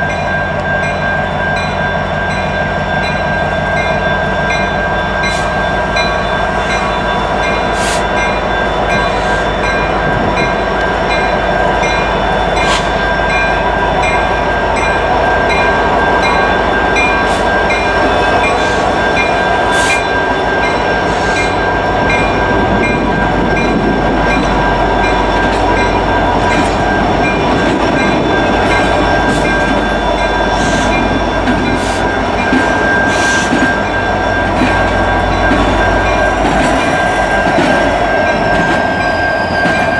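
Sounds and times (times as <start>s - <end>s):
train cars rolling on rails: 0.0s - 39.9s.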